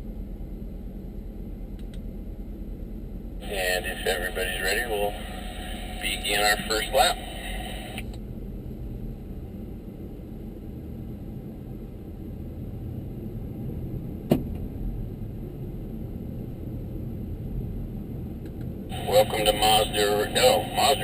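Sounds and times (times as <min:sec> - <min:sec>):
car engine rumble inside cabin: 0:00.0 - 0:21.0.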